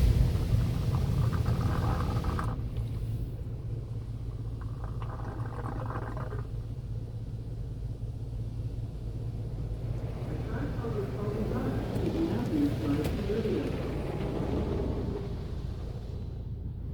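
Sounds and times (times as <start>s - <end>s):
car wash machinery humming: 0.0s - 16.9s.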